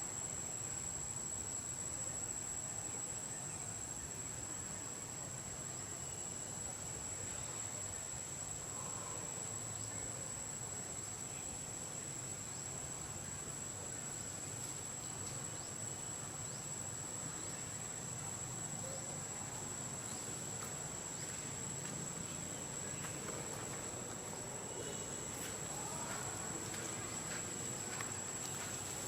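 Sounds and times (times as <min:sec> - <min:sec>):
insects droning: 0:00.0 - 0:29.0
low background hiss: 0:00.0 - 0:29.0.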